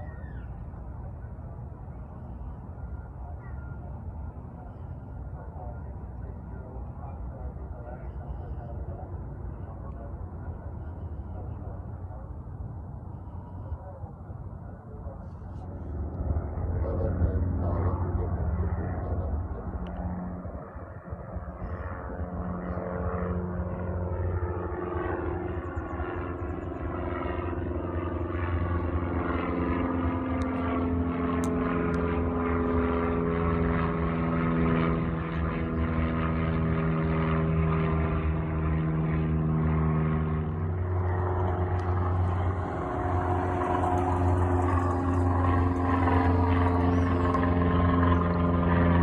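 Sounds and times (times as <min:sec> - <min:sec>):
light aircraft engine running: 0:00.0 - 0:49.0.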